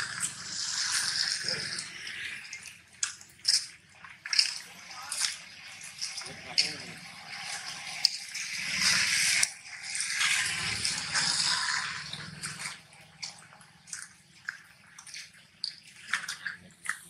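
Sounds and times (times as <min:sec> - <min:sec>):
water dripping: 0:00.0 - 0:17.0
water splashing and rushing: 0:00.0 - 0:17.0.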